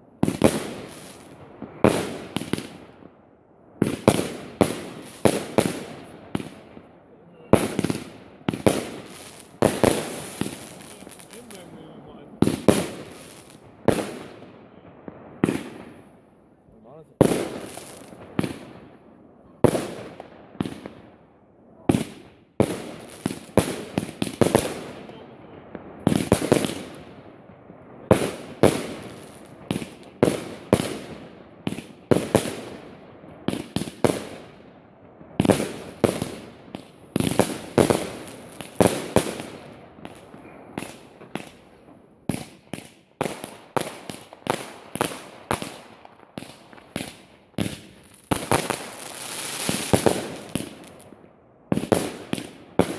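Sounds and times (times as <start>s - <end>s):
fireworks bangs: 0.0s - 52.9s.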